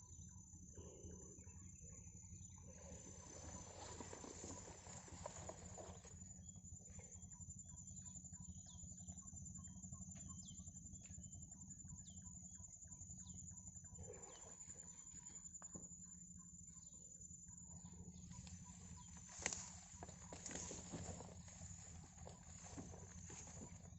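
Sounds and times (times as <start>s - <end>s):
faint bird chirping: 0.0s - 23.9s
high-pitched whine: 0.0s - 23.9s.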